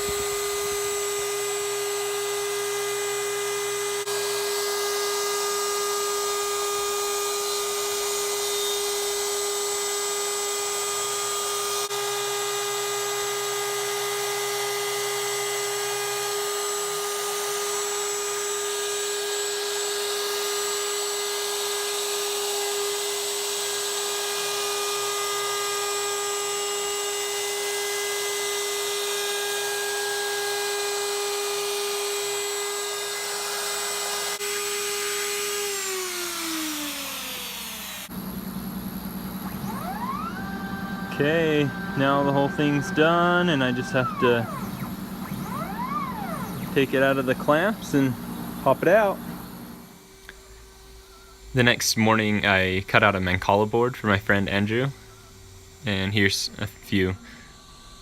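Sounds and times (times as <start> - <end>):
router bit cutting wood: 0.0 - 50.2, 55.4 - 58.0
router spindle whining: 0.0 - 51.6, 55.0 - 58.0.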